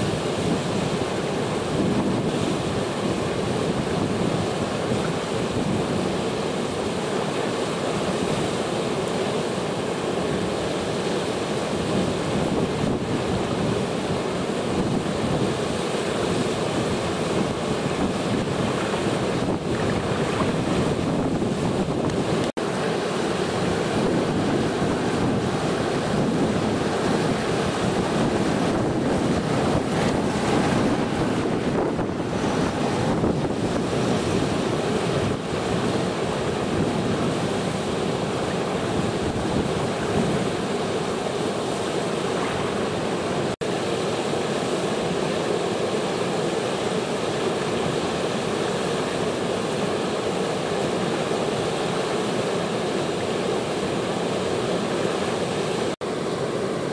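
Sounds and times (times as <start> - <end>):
water rushing over weir: 0.0 - 56.9.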